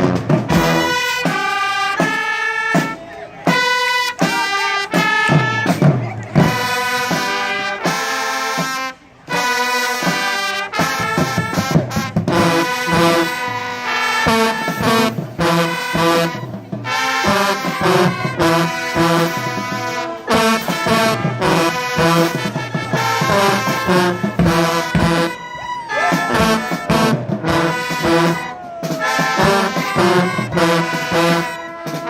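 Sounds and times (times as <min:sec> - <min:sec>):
brass band playing: 0:00.0 - 0:32.0
trombones and trumpets: 0:00.0 - 0:32.0.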